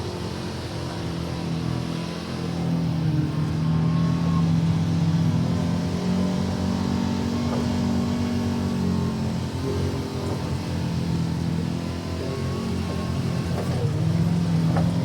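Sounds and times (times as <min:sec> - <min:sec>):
utility vehicle engine under load: 0:00.0 - 0:15.0.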